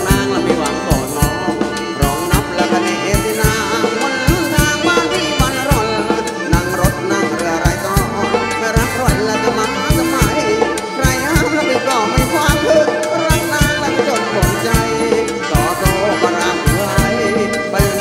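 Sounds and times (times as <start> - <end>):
upbeat dance band music: 0.0 - 18.0.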